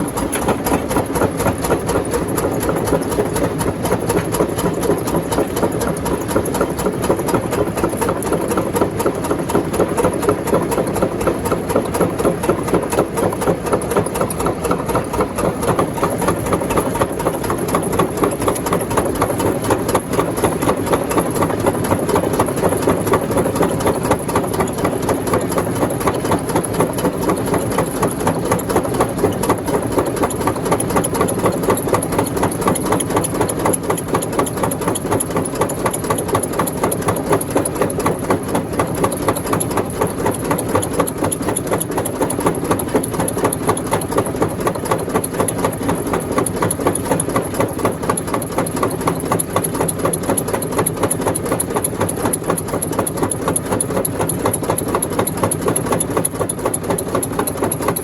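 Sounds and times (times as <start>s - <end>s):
rock crusher machine droning: 0.0s - 58.0s.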